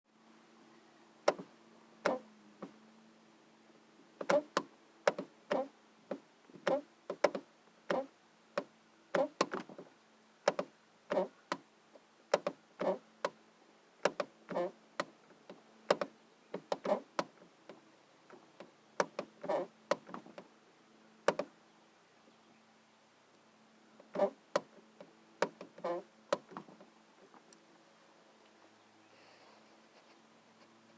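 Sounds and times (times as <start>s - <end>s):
faint steady hum: 0.1s - 30.9s.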